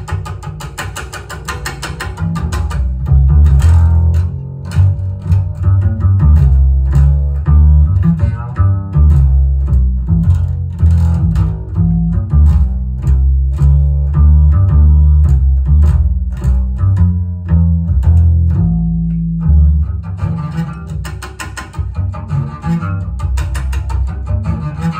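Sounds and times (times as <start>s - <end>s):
plucked double bass over loudspeakers: 0.0s - 24.9s.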